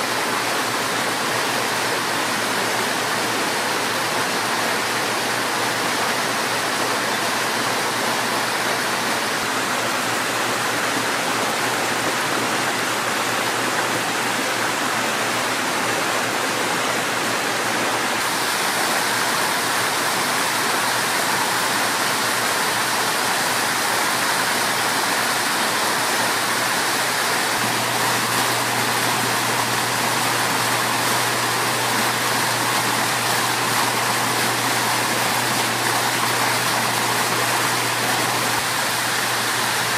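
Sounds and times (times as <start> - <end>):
fountain jets splashing: 0.0 - 39.9
water cascading over stone: 0.0 - 39.9.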